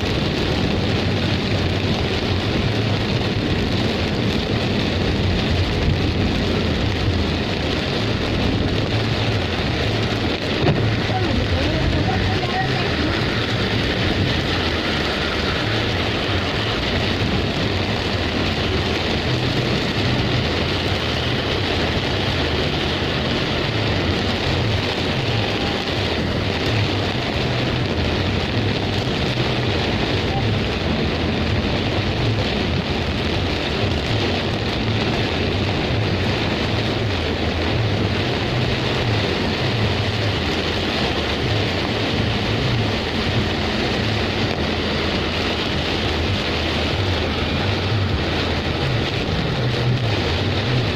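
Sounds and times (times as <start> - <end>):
heavy rain downpour: 0.0 - 50.9
low rumble: 0.0 - 50.9.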